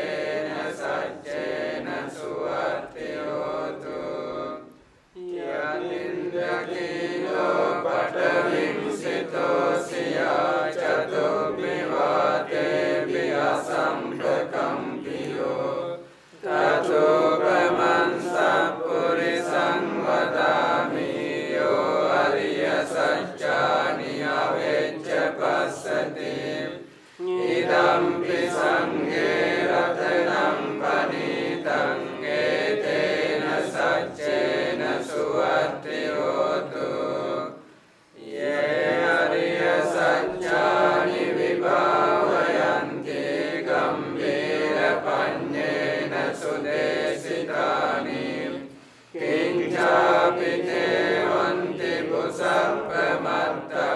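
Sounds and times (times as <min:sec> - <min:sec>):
monks chanting in unison: 0:00.0 - 0:53.9.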